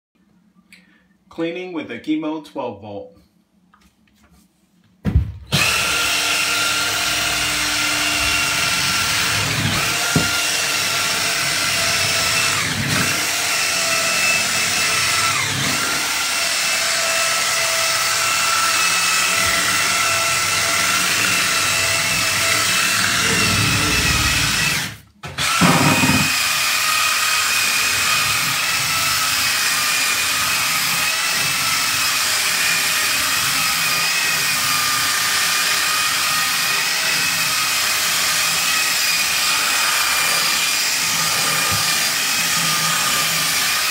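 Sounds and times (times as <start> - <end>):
cordless drill motor whine: 5.5 - 43.9.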